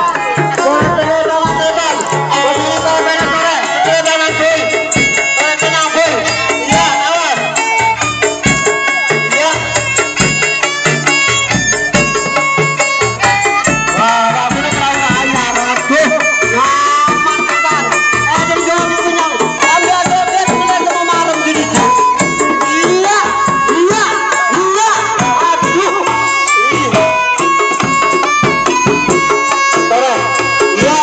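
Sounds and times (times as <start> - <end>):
folk music melody: 0.0 - 31.0
rapid percussion: 0.0 - 31.0.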